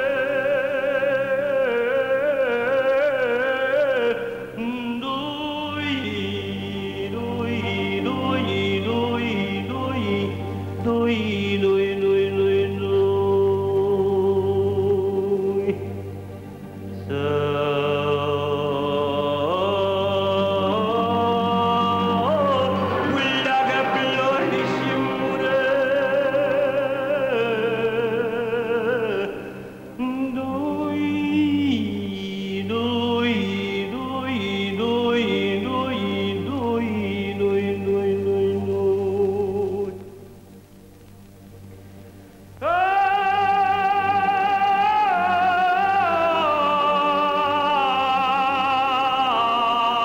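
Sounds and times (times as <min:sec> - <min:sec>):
person singing long held notes: 0:00.0 - 0:40.6, 0:42.5 - 0:50.0.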